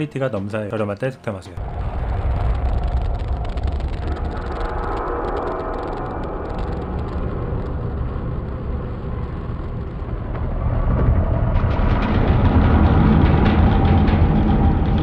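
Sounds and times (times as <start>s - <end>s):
dense low rumble: 1.6s - 15.0s.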